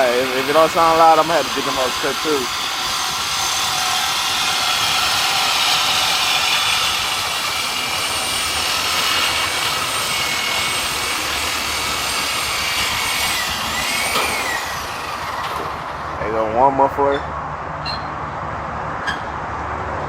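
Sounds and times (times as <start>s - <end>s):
power cutting tool whining: 0.0s - 16.2s.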